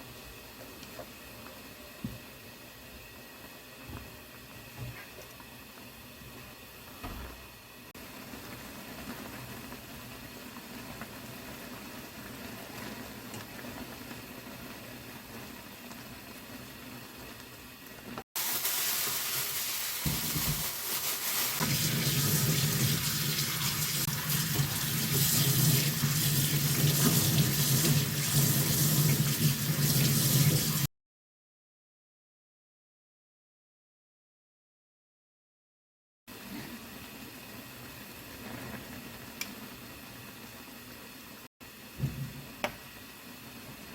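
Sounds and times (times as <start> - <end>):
water rushing in a cooking pot: 0.0 - 30.9, 36.3 - 43.9.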